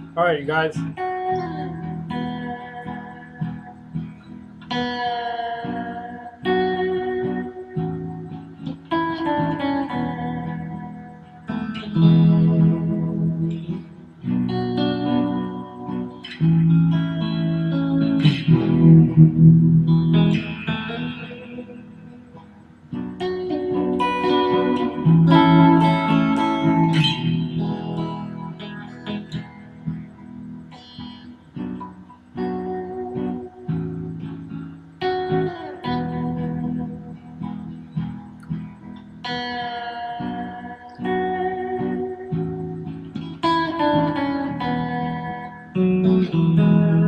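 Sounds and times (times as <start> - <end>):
clean electric guitar chords: 0.0 - 47.0.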